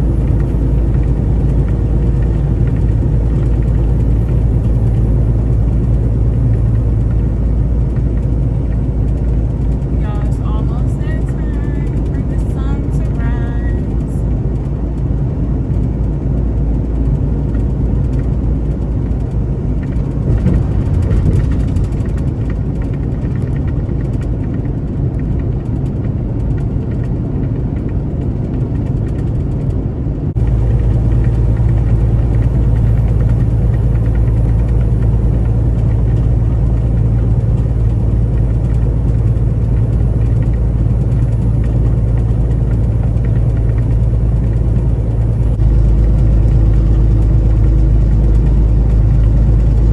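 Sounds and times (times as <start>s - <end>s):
truck engine and road rumble: 0.0s - 49.9s.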